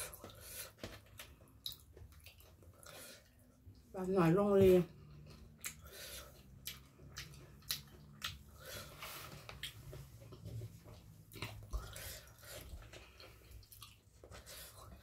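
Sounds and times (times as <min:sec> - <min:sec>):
person chewing food: 0:00.0 - 0:03.8, 0:05.0 - 0:15.0.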